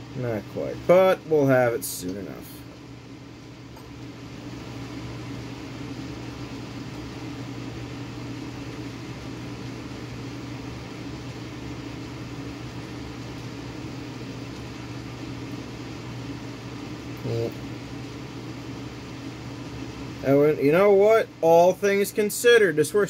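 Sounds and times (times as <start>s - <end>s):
fan humming with air hiss: 0.0s - 23.0s.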